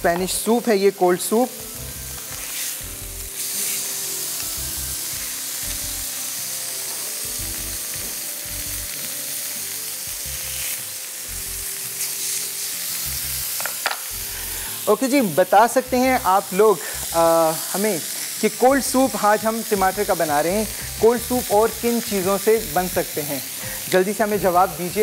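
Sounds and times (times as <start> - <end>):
steak sizzling on grill pan: 0.0 - 25.0.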